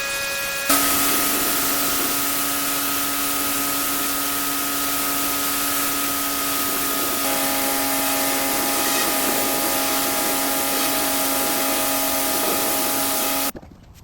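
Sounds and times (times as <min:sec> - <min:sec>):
pressure washer running tone: 0:00.0 - 0:13.5
water jet spraying paving: 0:00.7 - 0:13.6.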